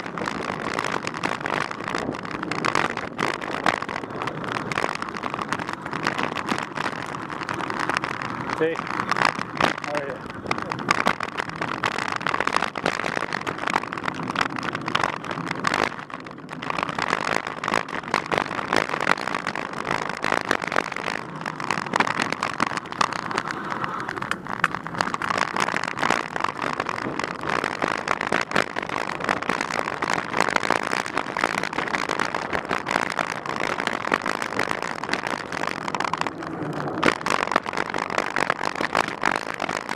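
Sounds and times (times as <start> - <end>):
bike rattling: 0.0 - 39.9
tyres crunching over dirt: 0.0 - 39.9.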